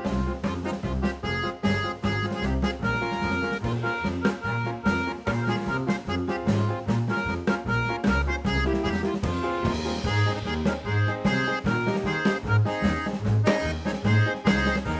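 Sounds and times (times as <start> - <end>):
instrumental keyboard music: 0.0 - 14.9.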